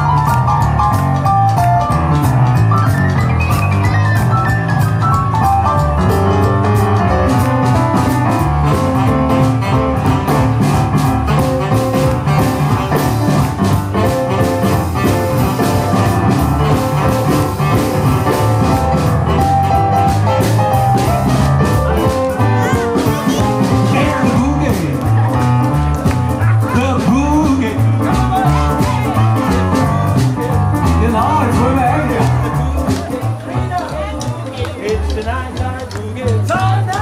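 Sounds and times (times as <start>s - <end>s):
drum kit beat: 0.0s - 37.0s
electric guitar: 0.0s - 37.0s
piano: 0.0s - 37.0s
upright bass: 0.0s - 37.0s.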